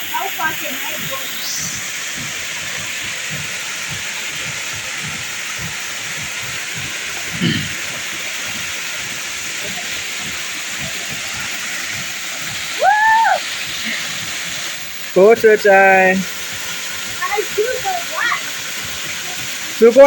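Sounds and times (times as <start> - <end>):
waterfall rushing hiss: 0.0 - 20.0.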